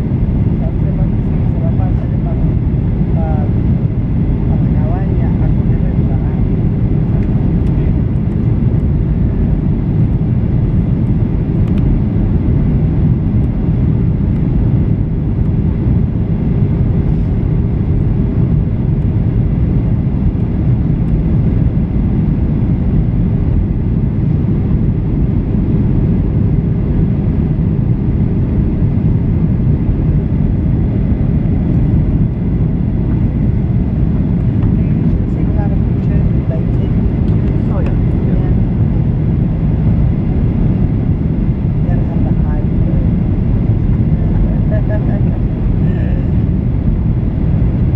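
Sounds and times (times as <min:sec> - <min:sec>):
jet engine rumble in cabin: 0:00.0 - 0:47.9.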